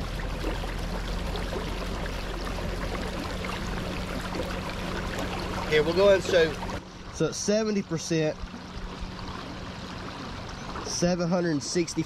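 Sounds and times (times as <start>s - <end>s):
water rushing along hull: 0.0s - 12.0s.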